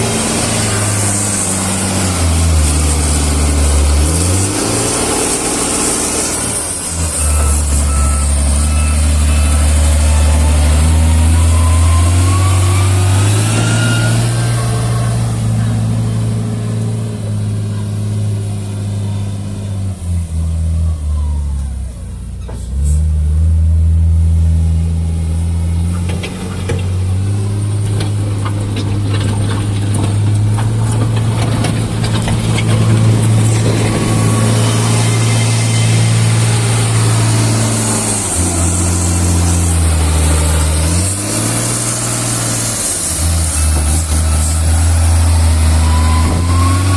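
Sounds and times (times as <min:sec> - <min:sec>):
diesel engine of heavy machinery: 0:00.0 - 0:46.9.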